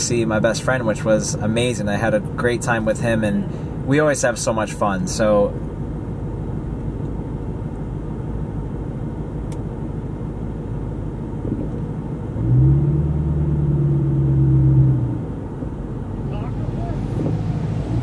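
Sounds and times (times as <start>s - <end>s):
car engine drone: 0.0s - 18.0s
road rumble: 0.0s - 18.0s.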